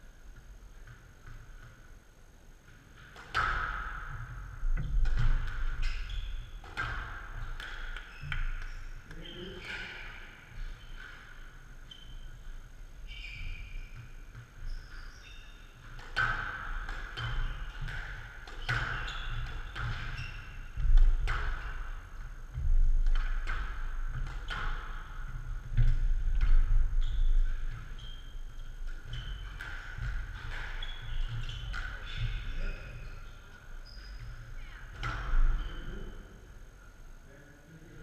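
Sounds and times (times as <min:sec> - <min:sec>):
squash ball hitting rackets and walls: 0:02.6 - 0:35.8
shoes squeaking on court floor: 0:02.7 - 0:36.5.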